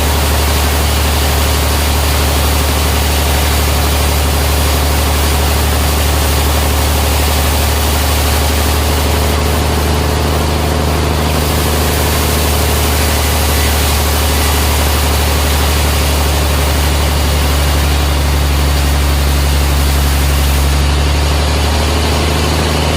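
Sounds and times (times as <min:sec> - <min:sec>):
sawmill machinery humming: 0:00.0 - 0:22.9.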